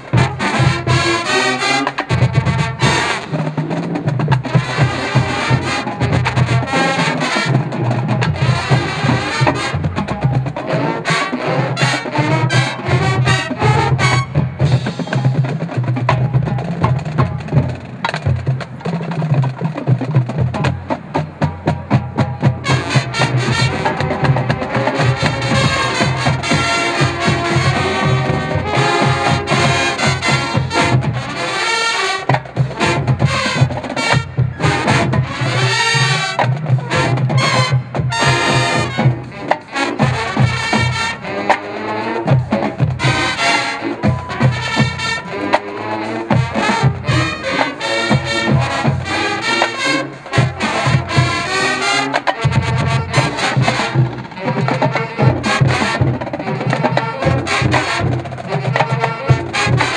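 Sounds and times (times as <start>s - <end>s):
brass horns playing funk: 0.0s - 59.9s
drum line beat: 0.0s - 59.9s.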